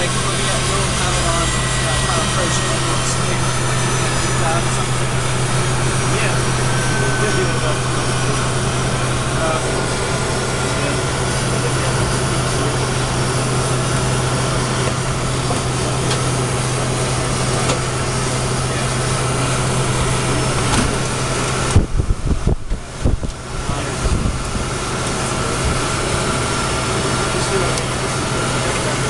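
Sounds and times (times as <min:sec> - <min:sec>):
air conditioning running: 0:00.0 - 0:29.0
jet engines running: 0:00.0 - 0:29.0
strong low hum: 0:00.0 - 0:29.0.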